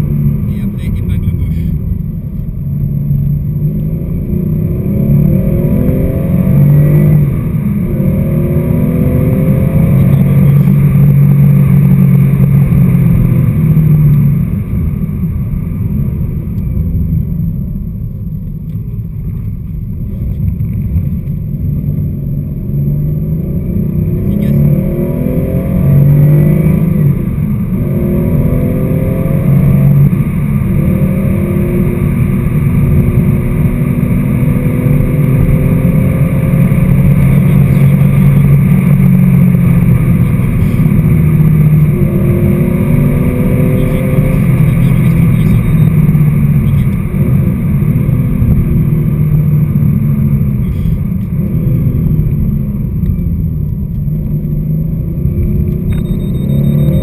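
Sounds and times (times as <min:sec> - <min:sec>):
car engine revving inside cabin: 0:00.0 - 0:57.0.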